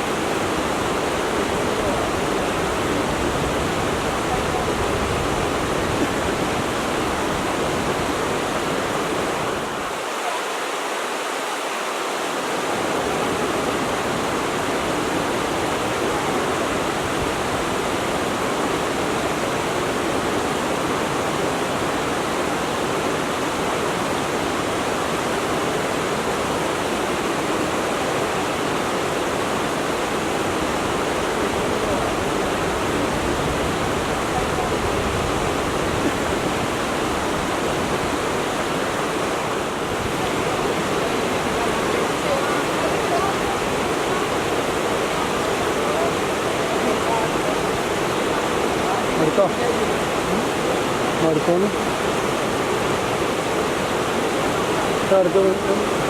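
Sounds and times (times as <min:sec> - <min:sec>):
stream water flowing and splashing: 0:00.0 - 0:56.0.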